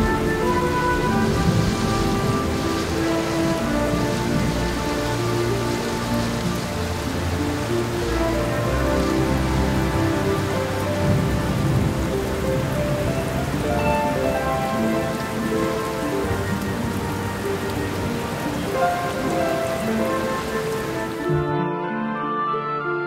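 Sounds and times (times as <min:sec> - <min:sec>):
rain on hard paving: 0:00.0 - 0:21.5
soft background music: 0:00.0 - 0:23.0.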